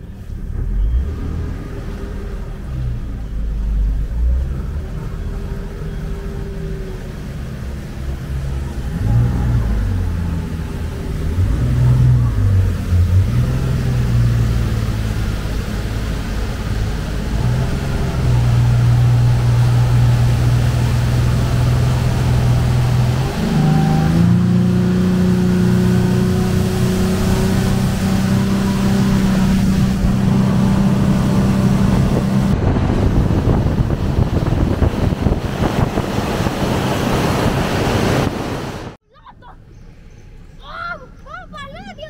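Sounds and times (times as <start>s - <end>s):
speedboat engine running: 0.0s - 39.0s.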